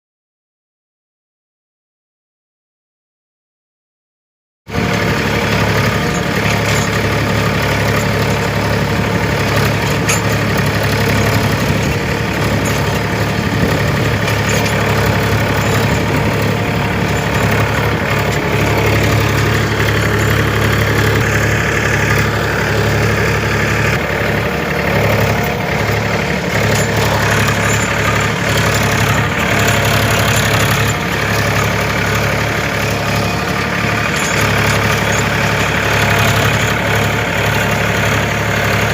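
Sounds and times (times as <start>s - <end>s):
tractor diesel engine running: 4.7s - 38.9s.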